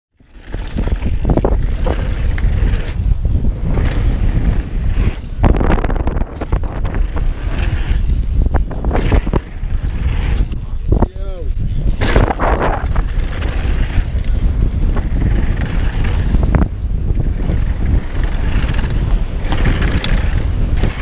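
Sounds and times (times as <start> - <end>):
bike clacking and rattling: 0.1 - 21.0
wind buffeting microphone: 0.3 - 21.0.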